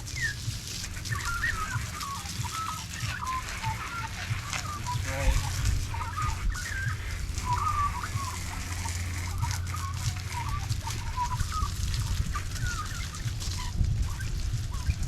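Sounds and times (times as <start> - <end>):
chickens clucking: 0.0 - 15.0
hose spraying: 0.0 - 15.0.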